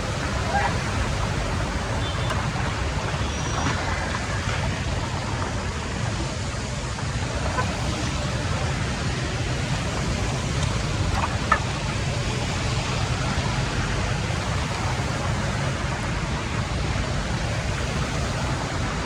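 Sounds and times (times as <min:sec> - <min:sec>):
floodwater rushing into drain: 0:00.0 - 0:19.0.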